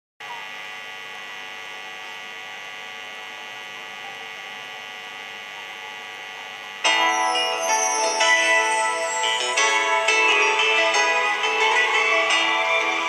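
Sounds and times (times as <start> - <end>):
electrical hum and buzz: 0.2 - 13.0.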